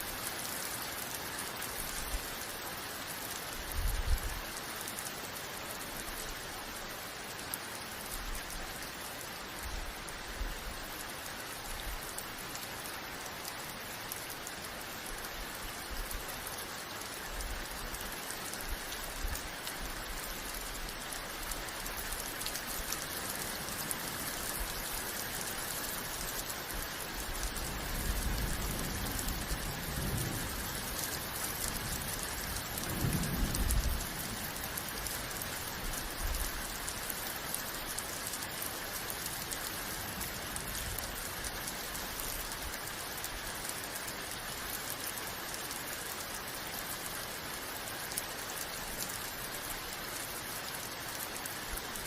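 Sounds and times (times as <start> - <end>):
rain falling: 0.0 - 52.0.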